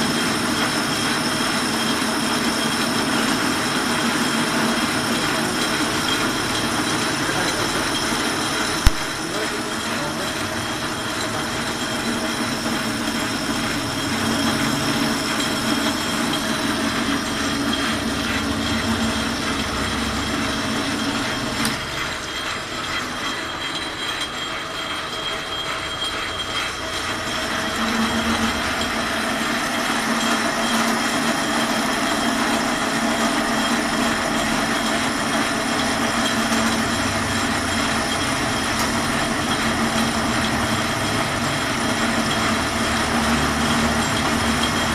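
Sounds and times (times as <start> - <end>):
lathe tool cutting steel: 0.0 - 44.9
metal lathe running: 0.0 - 44.9.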